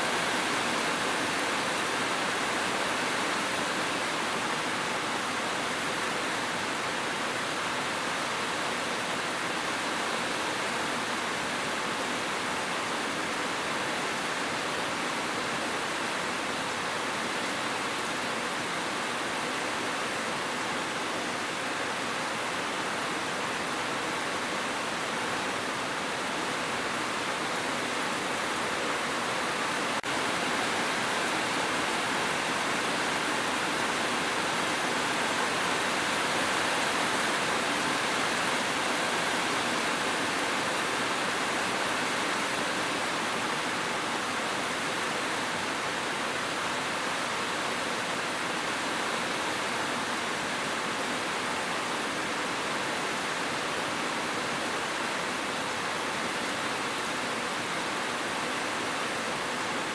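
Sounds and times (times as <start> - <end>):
hiss of falling water: 0.0 - 59.9.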